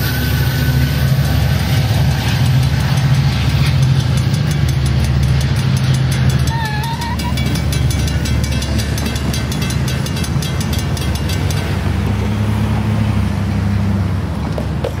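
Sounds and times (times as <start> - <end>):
crossing bell ringing: 0.0 - 12.2
low engine drone: 0.0 - 15.0.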